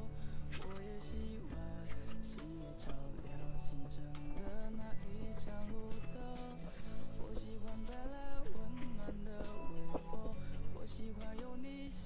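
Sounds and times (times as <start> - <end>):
background music with plucked notes: 0.0 - 12.0.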